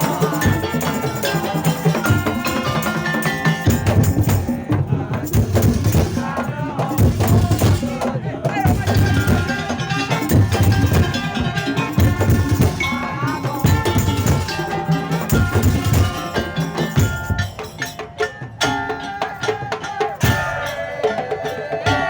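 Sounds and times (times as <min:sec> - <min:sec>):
bell-like melody: 0:00.0 - 0:06.5, 0:08.7 - 0:22.0
wooden slit drums and drums beating: 0:00.0 - 0:22.0.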